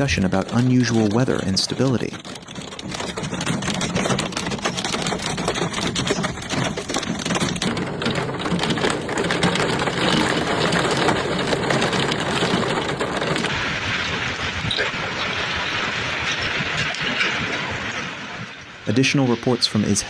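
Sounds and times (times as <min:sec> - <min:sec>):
hail clattering on hard surfaces: 0:00.0 - 0:18.7.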